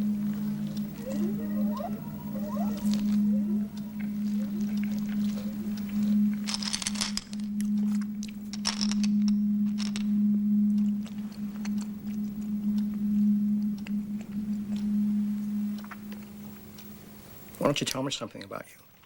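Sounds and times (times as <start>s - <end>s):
low humming tone: 0.0s - 17.7s
faint clicks and crackles: 0.0s - 19.0s.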